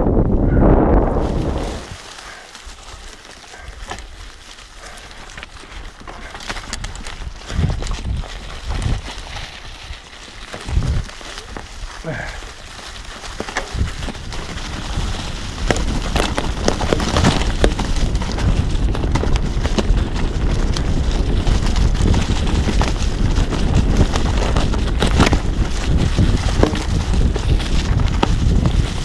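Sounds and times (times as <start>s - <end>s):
bike tyres rolling over leaves: 0.0s - 29.0s
wind on microphone: 0.0s - 29.0s
bike clicks and rattles: 1.3s - 29.0s.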